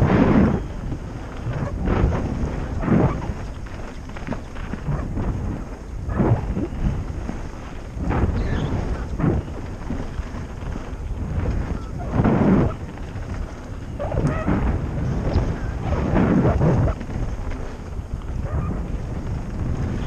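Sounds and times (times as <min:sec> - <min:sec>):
bike tyres rumbling on dirt trail: 0:00.0 - 0:20.0
wind buffeting microphone: 0:00.0 - 0:20.0.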